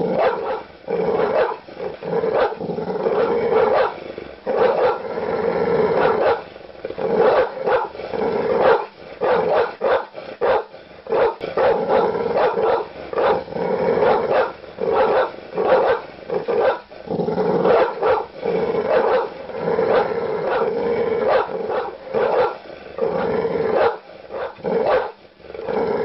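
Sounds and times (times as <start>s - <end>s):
large dog barking aggressively: 0.0s - 5.1s, 5.8s - 25.8s.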